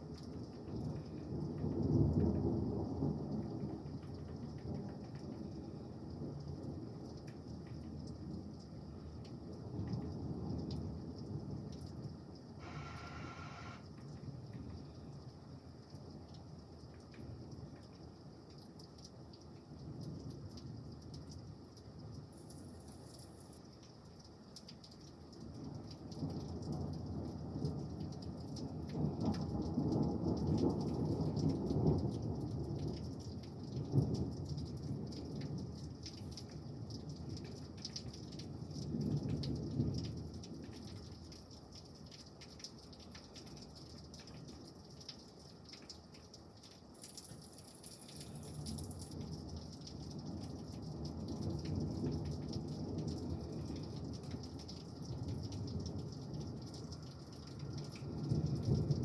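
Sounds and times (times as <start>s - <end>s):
raindrops ticking on a surface: 0.0s - 59.0s
steady rain: 0.0s - 59.0s.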